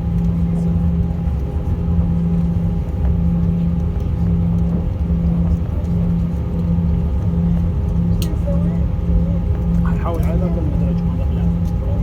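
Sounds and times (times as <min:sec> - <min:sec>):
jet engine low rumble: 0:00.0 - 0:12.0.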